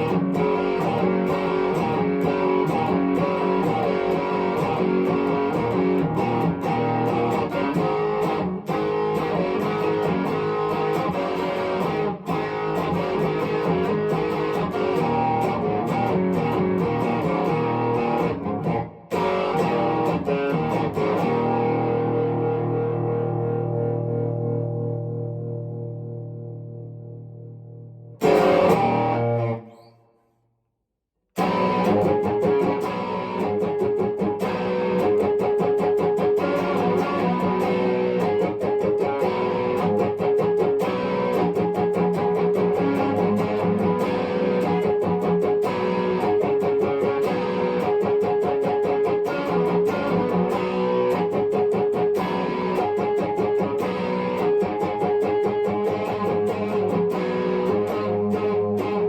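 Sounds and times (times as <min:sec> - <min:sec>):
electric guitar chord: 0:00.0 - 0:29.8, 0:31.4 - 0:59.0
electric guitar picked playing: 0:00.0 - 0:29.9, 0:31.4 - 0:59.0.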